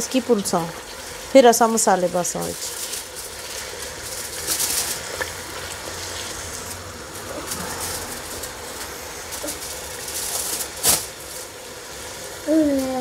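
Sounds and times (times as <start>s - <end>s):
paste sizzling in oil: 0.0s - 12.5s.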